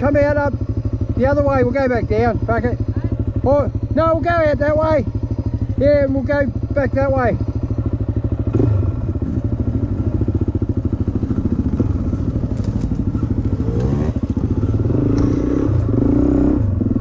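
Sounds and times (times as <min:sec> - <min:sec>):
dirt bike engine revving: 0:00.0 - 0:17.0
dirt bike engines idling: 0:00.0 - 0:17.0.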